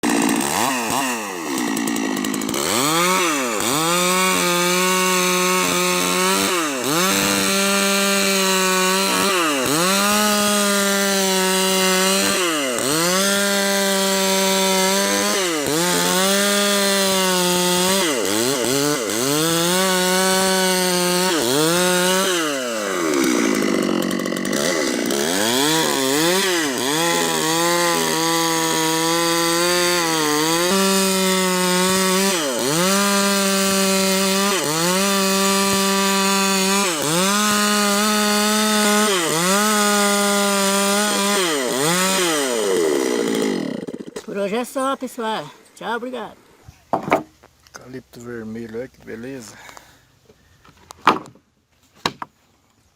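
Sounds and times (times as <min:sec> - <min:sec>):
chainsaw ripping a log: 0:00.0 - 0:46.3.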